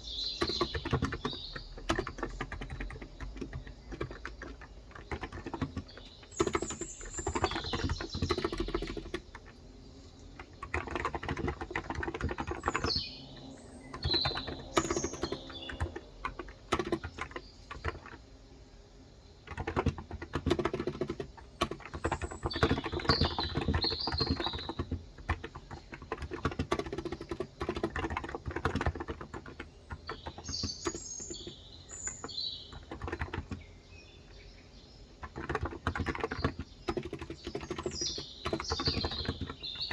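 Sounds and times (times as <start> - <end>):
keyboard typing: 0.0 - 18.3, 19.4 - 33.7, 35.2 - 39.9
birds chirping: 0.0 - 39.9.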